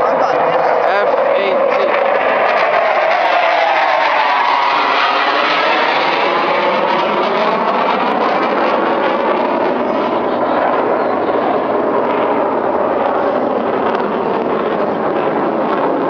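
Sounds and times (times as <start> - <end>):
fighter jet fly-by: 0.0 - 16.0.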